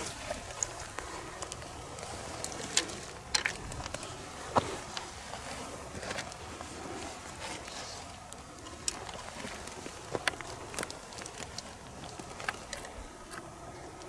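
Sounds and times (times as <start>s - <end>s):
steady hiss: 0.0s - 14.0s
twigs snapping: 0.0s - 14.0s.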